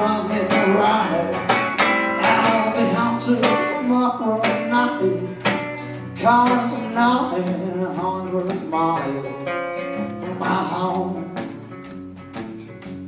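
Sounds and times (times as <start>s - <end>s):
acoustic blues guitar: 0.0s - 13.0s.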